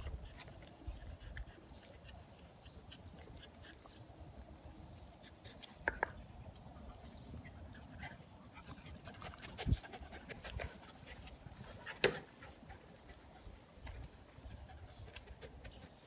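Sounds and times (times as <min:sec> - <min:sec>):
dog panting: 0:00.0 - 0:05.7, 0:07.1 - 0:16.0.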